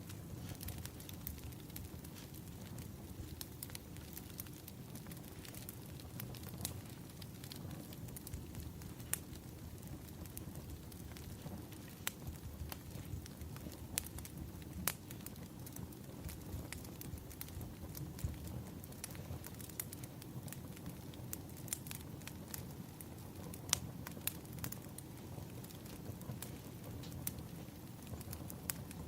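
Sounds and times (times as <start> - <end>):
fire low rumble: 0.0 - 29.0
firewood crackling and popping: 0.0 - 29.0.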